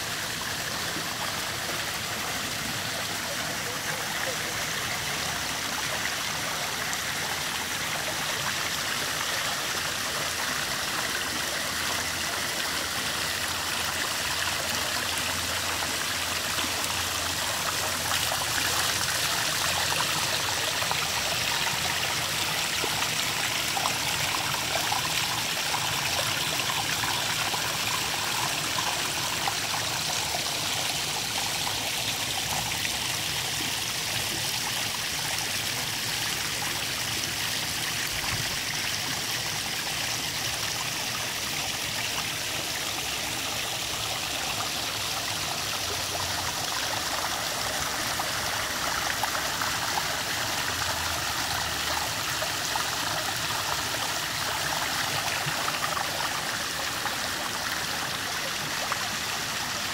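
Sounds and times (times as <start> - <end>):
waterfall splashing over rocks: 0.0 - 59.9.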